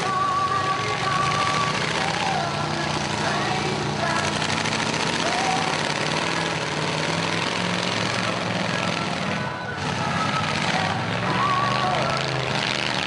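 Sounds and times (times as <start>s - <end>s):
car engines revving together: 0.0s - 13.0s.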